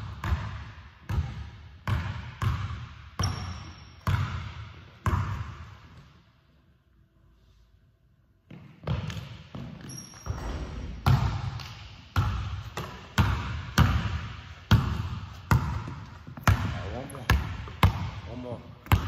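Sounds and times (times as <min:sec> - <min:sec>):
basketball bouncing on hardwood floor: 0:00.0 - 0:05.8, 0:08.5 - 0:18.2.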